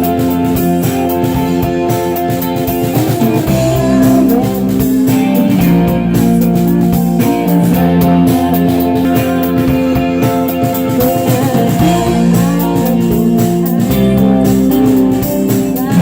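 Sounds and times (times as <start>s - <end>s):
bass and drums: 0.0s - 16.0s
electric guitars playing chords: 0.0s - 16.0s.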